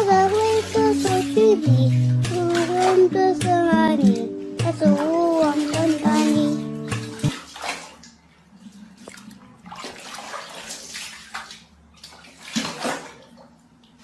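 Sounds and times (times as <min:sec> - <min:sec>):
water splashing in plastic tub: 0:00.0 - 0:14.0.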